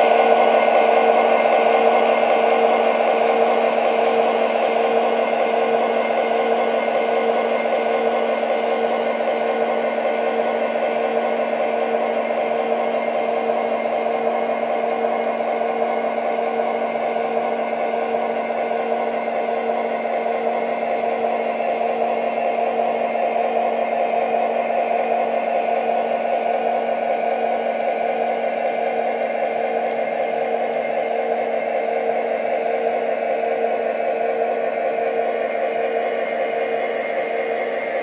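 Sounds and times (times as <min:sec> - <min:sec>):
model train wheels rolling on track: 0:00.0 - 0:38.0
steady hum: 0:00.0 - 0:38.0.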